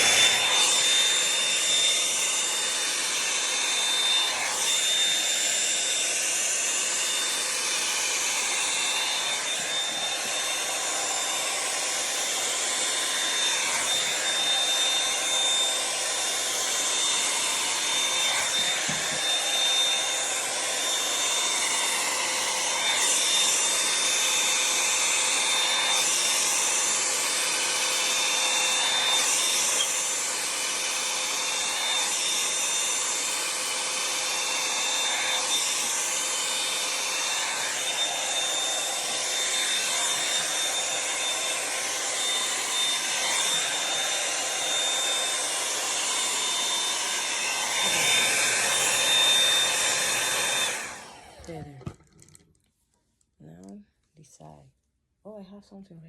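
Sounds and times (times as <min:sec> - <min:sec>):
hair dryer brush blowing air: 0:00.0 - 0:52.0.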